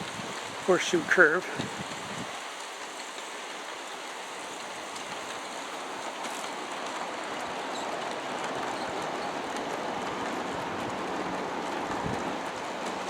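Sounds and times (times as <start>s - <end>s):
model train wheels rumbling on rail: 0.0s - 13.0s.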